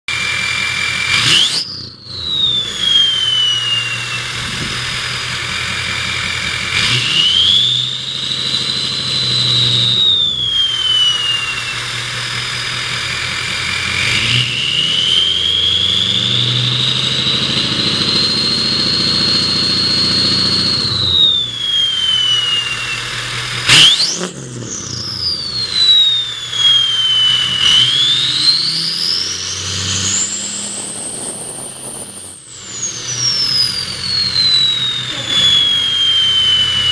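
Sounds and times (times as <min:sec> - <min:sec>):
diesel engine revving: 0:00.1 - 0:36.9
turbocharger whistling: 0:00.1 - 0:36.9.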